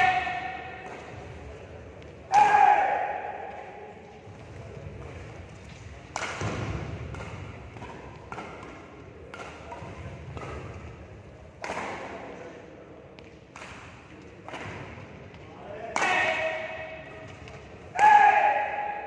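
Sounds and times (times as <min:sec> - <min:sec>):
rackets striking shuttlecock: 0:00.0 - 0:04.4, 0:05.0 - 0:12.4, 0:13.1 - 0:19.0.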